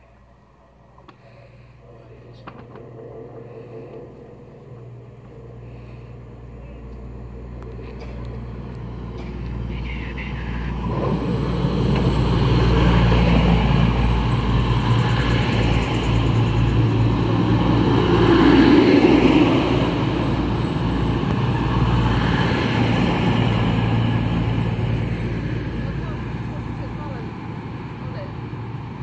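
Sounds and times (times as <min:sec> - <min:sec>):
diesel train engines humming: 0:00.0 - 0:29.0
wheel and rail rumble: 0:00.0 - 0:29.0.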